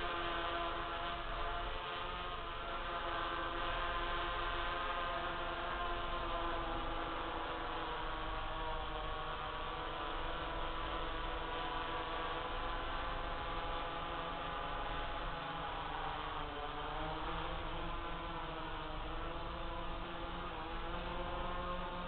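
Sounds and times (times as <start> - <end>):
drone motors humming: 0.0 - 22.0.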